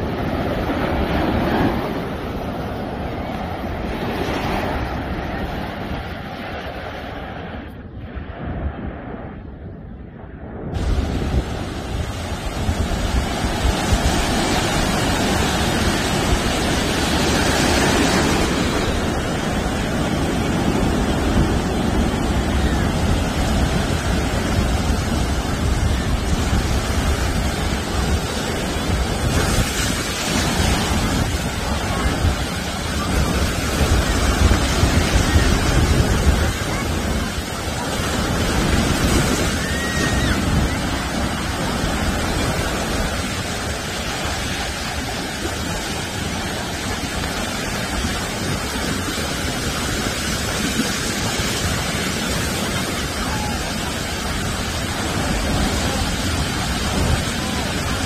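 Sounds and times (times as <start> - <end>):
surf breaking on sandy beach: 0.0 - 9.4, 10.6 - 58.0
wind buffeting microphone: 0.0 - 58.0.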